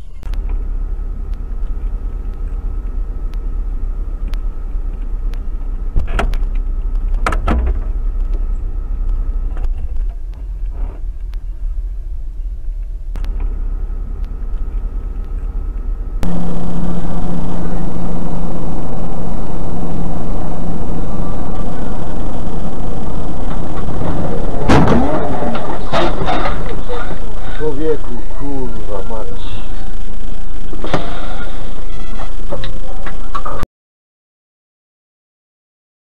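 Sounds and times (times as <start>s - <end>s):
loud engine drone: 0.0s - 33.6s
low road vehicle rumble: 0.0s - 33.6s.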